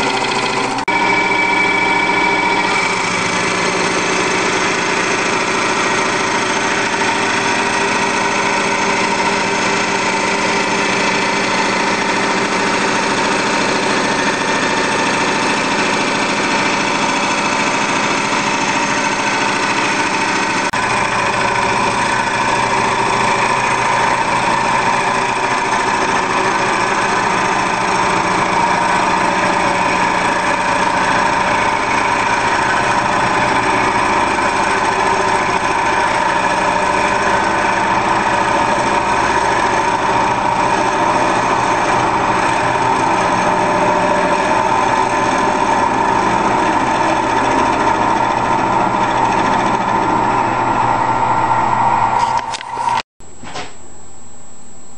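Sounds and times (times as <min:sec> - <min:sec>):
lathe running with whine: 0:00.0 - 0:53.0.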